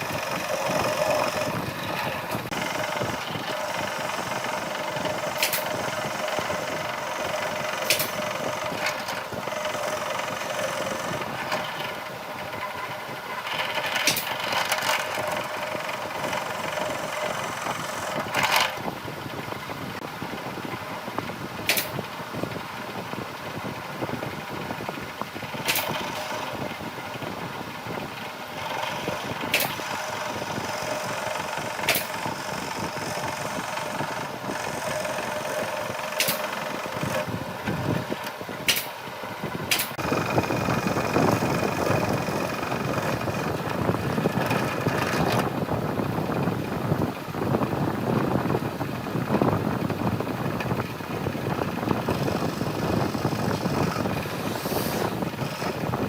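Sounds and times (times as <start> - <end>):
motor running: 0.0 - 19.0, 21.6 - 56.0.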